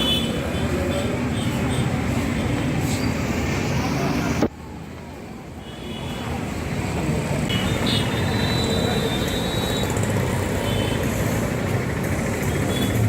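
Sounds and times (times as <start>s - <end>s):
busy market din: 0.0s - 13.0s
street traffic: 0.0s - 13.0s.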